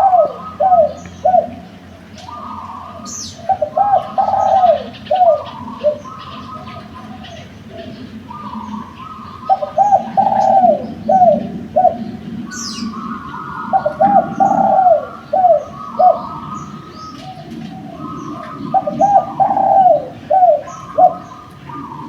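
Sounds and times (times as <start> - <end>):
doves cooing: 0.0 - 22.0
small birds chirping: 0.0 - 22.0.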